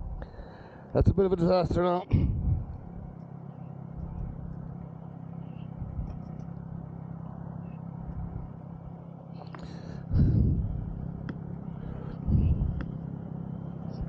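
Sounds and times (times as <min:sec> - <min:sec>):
small motorbike engine running: 0:00.0 - 0:14.0.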